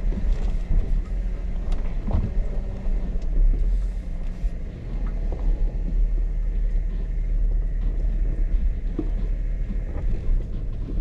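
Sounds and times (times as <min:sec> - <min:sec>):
car engine running low speed: 0:00.0 - 0:11.0.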